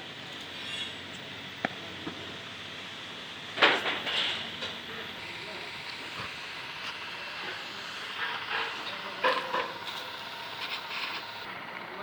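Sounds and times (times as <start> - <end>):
welding torch flame hissing: 0.1 - 11.5.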